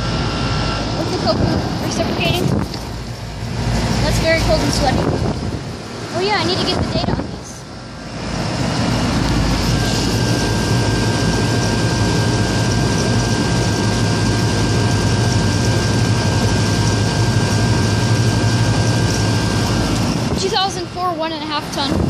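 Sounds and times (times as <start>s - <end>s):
compressor humming: 0.0s - 22.0s
condenser fan rushing: 0.0s - 22.0s.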